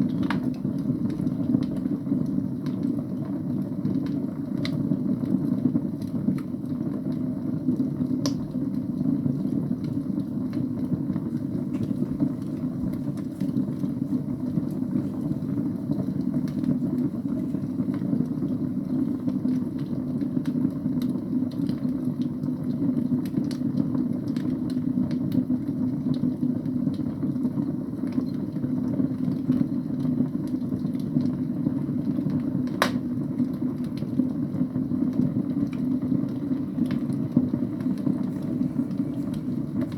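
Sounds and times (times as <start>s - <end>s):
fire burning: 0.0s - 39.9s
fire crackling and popping: 0.0s - 39.9s.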